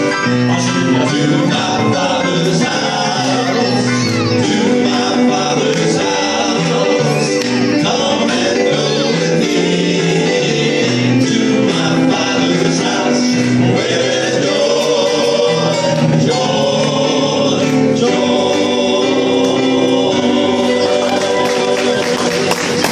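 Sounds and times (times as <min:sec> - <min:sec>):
electronic keyboard accompaniment: 0:00.0 - 0:22.9
male quartet singing in harmony: 0:00.0 - 0:22.9.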